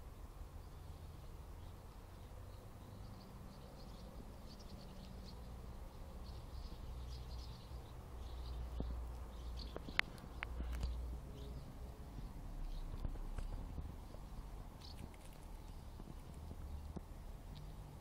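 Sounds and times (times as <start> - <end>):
sparrow chirps: 0.6 - 18.0.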